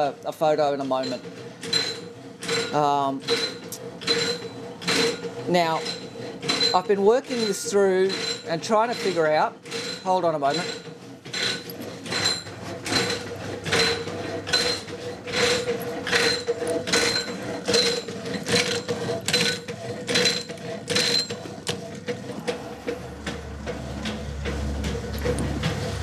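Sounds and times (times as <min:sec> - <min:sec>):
hacksaw scraping metal: 0:01.0 - 0:22.4.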